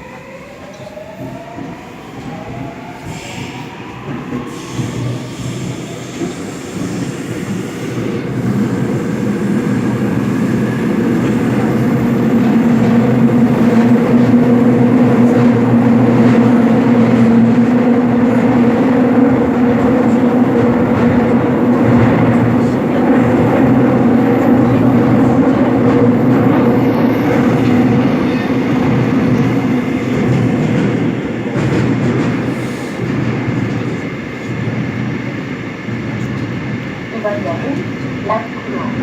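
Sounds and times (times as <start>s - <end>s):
subway train rumbling on rails: 0.0s - 39.0s.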